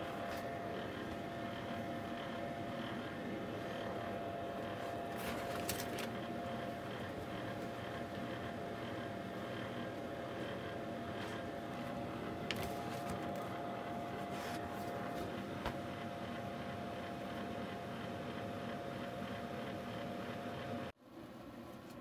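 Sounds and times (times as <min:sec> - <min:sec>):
projector whirring hum: 0:00.0 - 0:22.0.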